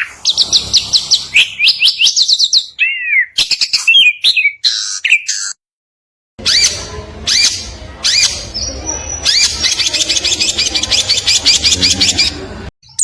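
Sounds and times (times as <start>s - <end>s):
songbird singing: 0.0s - 5.6s, 6.4s - 13.0s.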